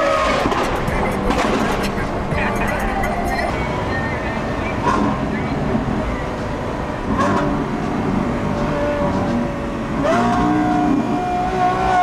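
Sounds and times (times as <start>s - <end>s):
road and wind noise: 0.0s - 12.0s
sports car engine cruising: 0.0s - 12.0s.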